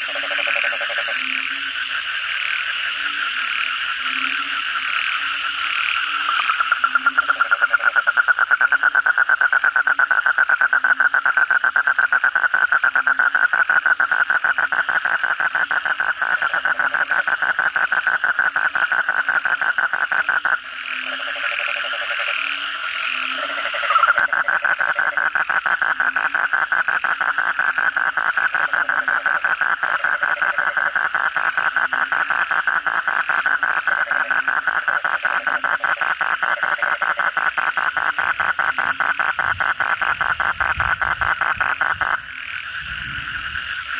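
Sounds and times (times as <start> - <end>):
toad calling with fast trill: 5.2 - 43.9.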